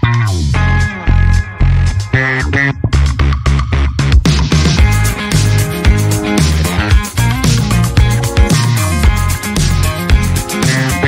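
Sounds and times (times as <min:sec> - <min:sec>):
guitar and bass music over a beat: 0:00.0 - 0:11.0.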